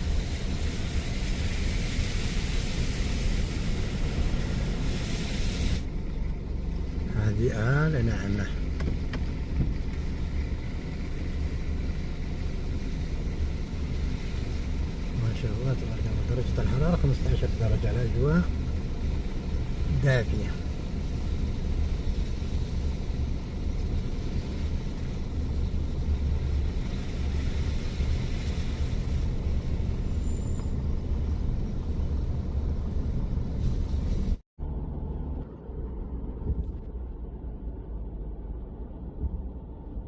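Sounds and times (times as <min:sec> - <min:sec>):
car engine rumble: 0:00.0 - 0:40.0
road noise hiss: 0:00.0 - 0:40.0.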